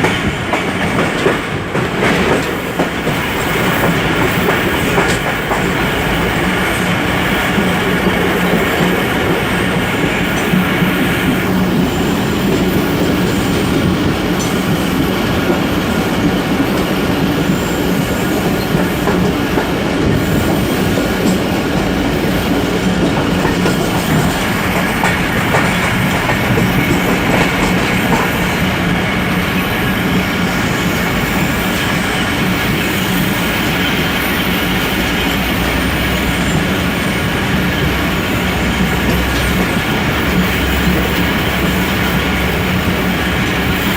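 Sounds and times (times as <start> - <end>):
passenger train rumbling on rails: 0.0 - 43.9.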